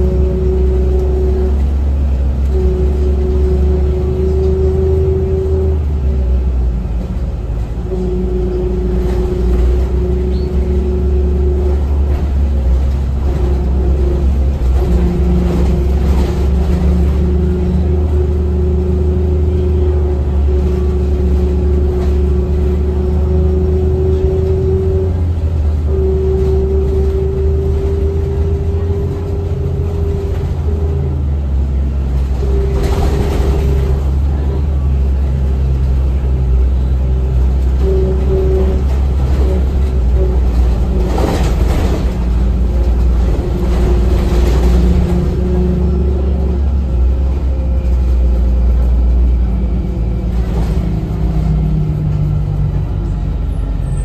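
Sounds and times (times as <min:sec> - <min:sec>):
bus engine low rumble: 0:00.0 - 0:54.0
humming tone: 0:00.0 - 0:54.0.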